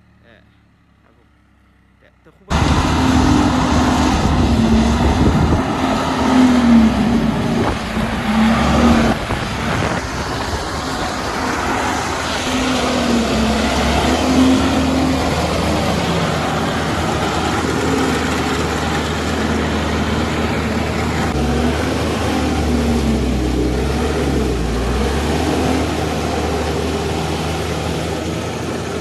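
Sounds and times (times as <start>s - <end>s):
tractor engine under load: 0.0s - 29.0s
rotary tiller working: 2.5s - 29.0s.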